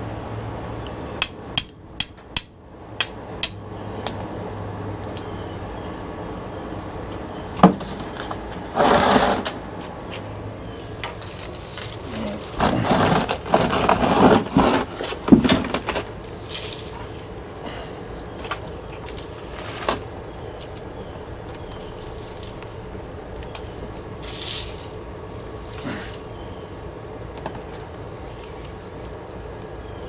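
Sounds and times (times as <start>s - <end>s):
metal fan parts clinking and scraping: 3.0s - 26.4s, 27.5s - 29.6s.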